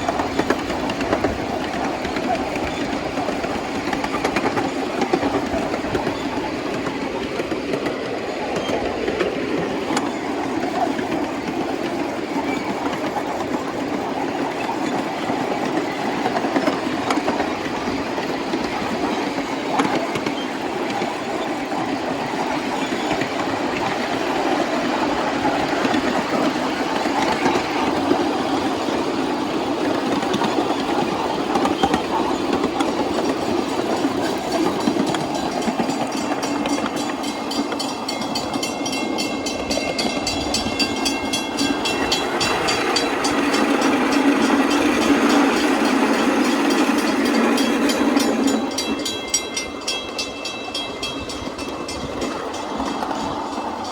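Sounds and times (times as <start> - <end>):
miniature train wheels rumbling: 0.0 - 53.9.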